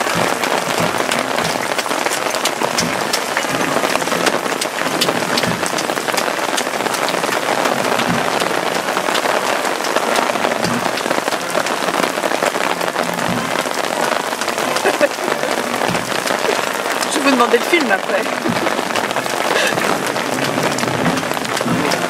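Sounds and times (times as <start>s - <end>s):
rain on wet pavement: 0.0s - 22.0s
raindrop taps: 0.0s - 22.0s.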